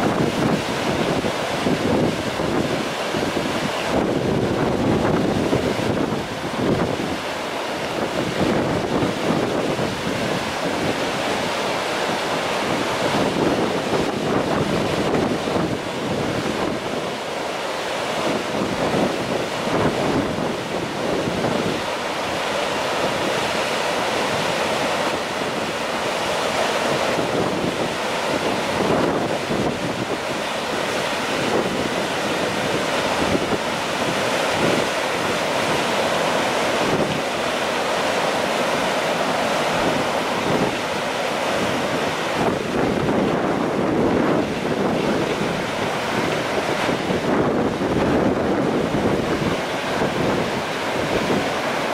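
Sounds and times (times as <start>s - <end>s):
river rushing: 0.0s - 51.9s
wind buffeting microphone: 0.0s - 51.9s.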